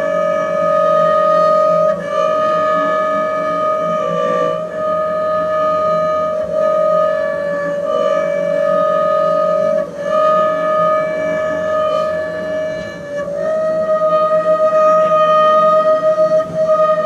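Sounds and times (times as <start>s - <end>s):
bowed double bass note: 0.0s - 17.0s.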